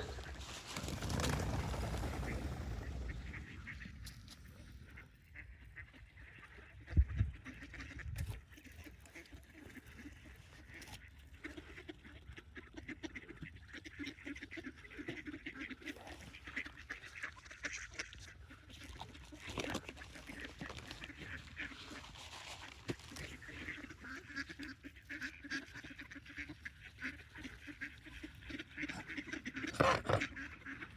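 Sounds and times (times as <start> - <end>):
waterfowl honking and quacking: 1.9 - 30.9.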